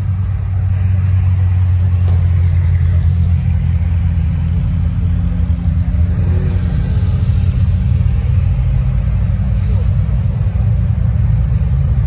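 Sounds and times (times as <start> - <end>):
sports car engines rumbling: 0.0 - 12.0.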